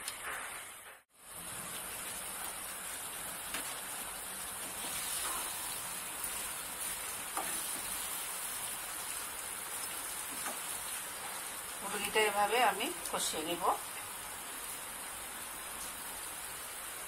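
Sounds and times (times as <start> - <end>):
chicken sizzling in oil: 1.1 - 17.0.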